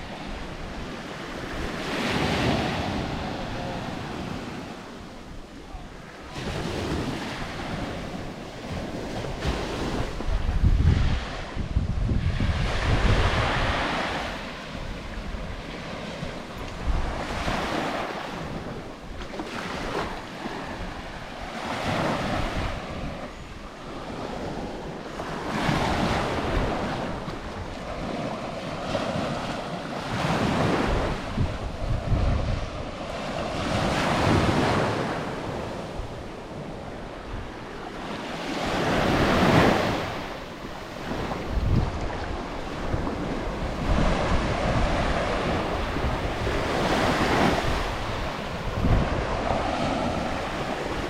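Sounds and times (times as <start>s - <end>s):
small waves breaking on shore: 0.0s - 51.0s
wind buffeting microphone: 0.0s - 51.0s.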